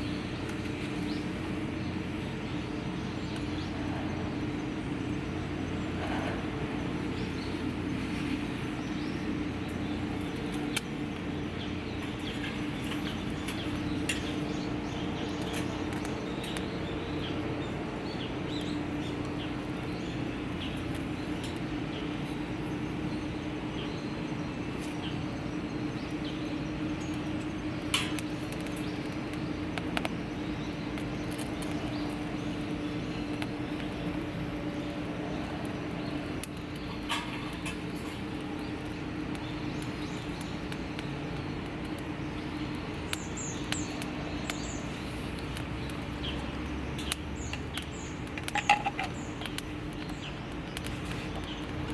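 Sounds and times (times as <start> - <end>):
steady low hum: 0.0 - 51.9
wood fire crackling: 0.0 - 51.9.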